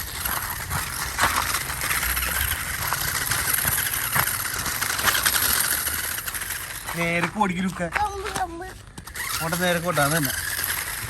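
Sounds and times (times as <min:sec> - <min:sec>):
toy car electric motor whirring: 0:00.0 - 0:11.0.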